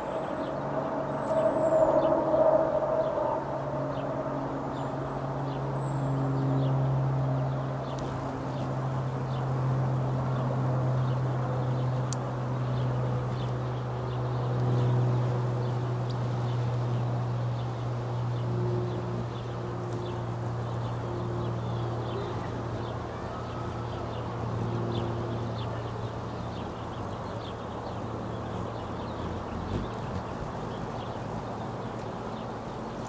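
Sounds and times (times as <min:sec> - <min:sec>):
small birds chirping: 0:03.9 - 0:33.0.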